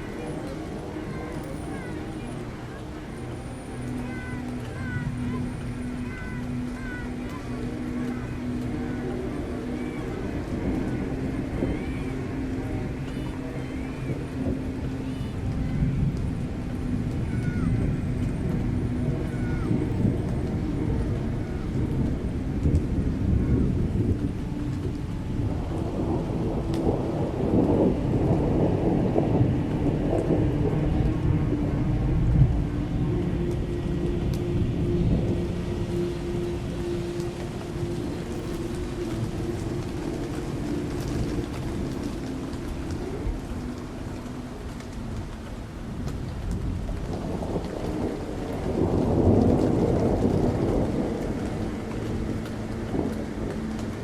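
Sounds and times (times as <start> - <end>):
deep rumble: 0.0 - 54.0
raindrop patter: 0.0 - 54.0
rolling thunder: 0.0 - 54.0.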